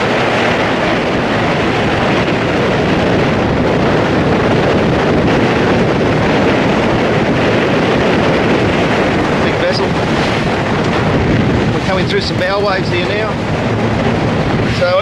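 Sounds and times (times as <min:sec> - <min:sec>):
water rushing along hull: 0:00.0 - 0:15.0
wind across microphone: 0:00.0 - 0:15.0.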